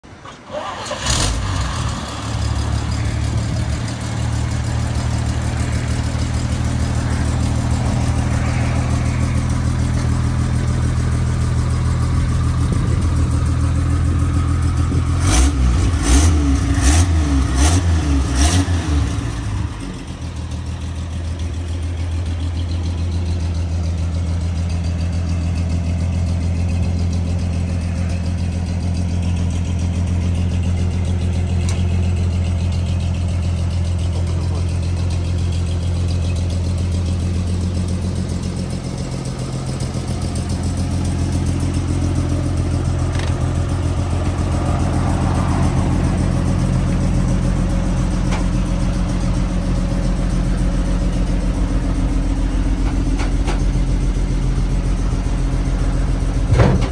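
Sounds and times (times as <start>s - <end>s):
truck engine idling and revving: 0.0s - 56.9s.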